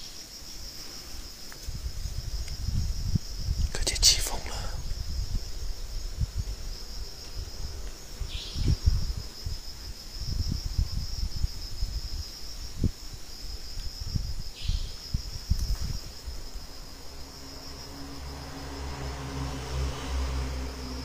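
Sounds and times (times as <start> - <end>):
crickets trilling: 0.0 - 21.0
wind rumbling on microphone: 0.0 - 21.0.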